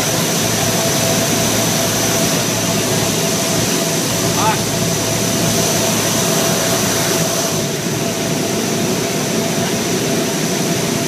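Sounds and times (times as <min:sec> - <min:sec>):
constant high whine: 0:00.0 - 0:11.0
turboprop engines droning: 0:00.0 - 0:11.0.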